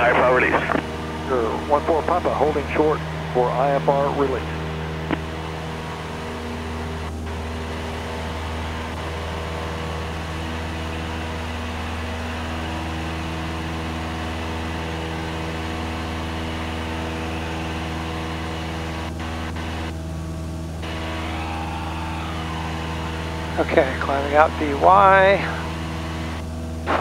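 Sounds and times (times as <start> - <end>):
light aircraft engine and propeller: 0.0 - 27.0.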